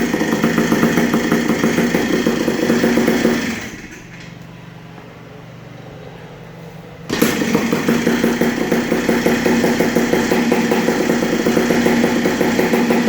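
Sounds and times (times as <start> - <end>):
dirt bike engine idling: 0.0 - 5.7, 7.0 - 13.0.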